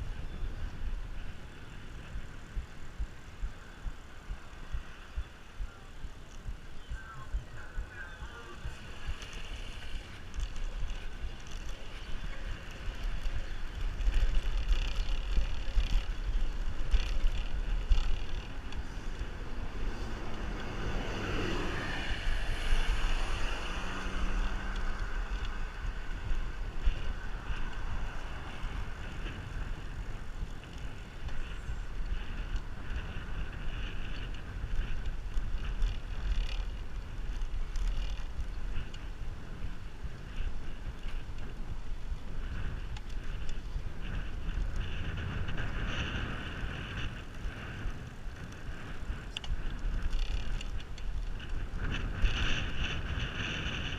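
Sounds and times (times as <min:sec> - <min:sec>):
rolling road noise: 0:00.0 - 0:53.9
wind buffeting microphone: 0:00.0 - 0:53.9.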